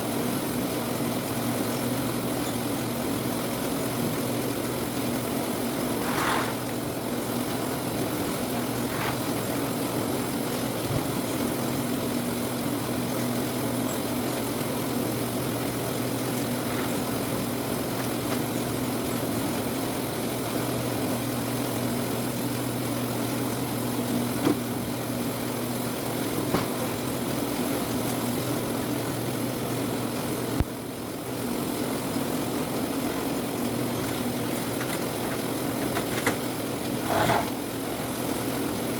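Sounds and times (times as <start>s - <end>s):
sorting machine humming: 0.0s - 38.9s.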